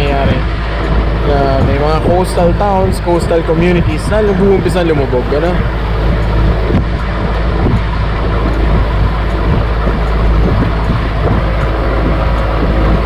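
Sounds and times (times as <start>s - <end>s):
motorboat engine drone: 0.0s - 13.0s
water splashing along hull: 0.0s - 13.0s
wind rushing: 0.0s - 13.0s.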